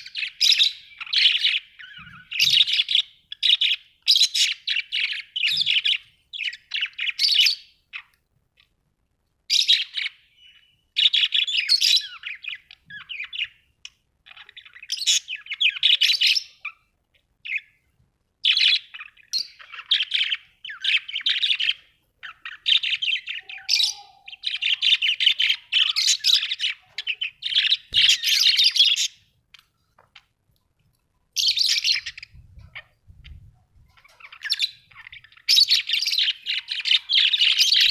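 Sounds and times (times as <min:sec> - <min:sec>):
budgerigars chattering and warbling: 0:00.0 - 0:08.7, 0:09.5 - 0:16.8, 0:18.4 - 0:30.3, 0:31.4 - 0:37.9.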